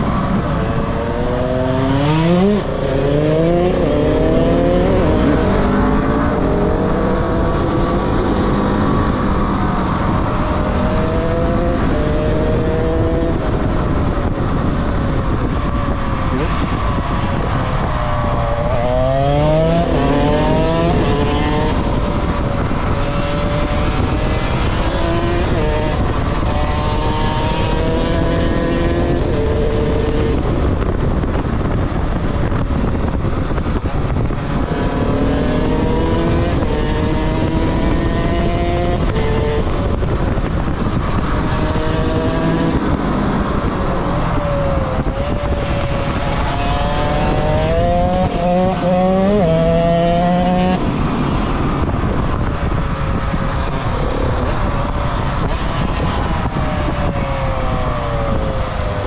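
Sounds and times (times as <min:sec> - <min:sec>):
motorcycle engine accelerating: 0:00.0 - 0:59.0
wind and road noise: 0:00.0 - 0:59.0.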